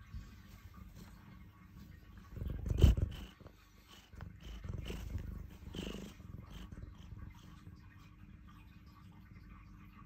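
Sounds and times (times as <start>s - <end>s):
cat purring: 0.0s - 9.9s.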